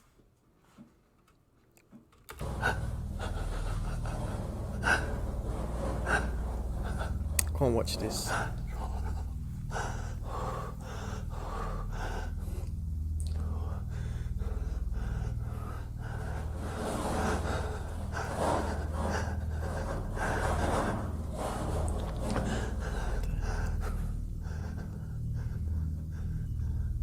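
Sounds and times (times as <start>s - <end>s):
person gasping breaths: 2.4s - 21.3s, 22.2s - 27.0s
low hum: 2.4s - 27.0s.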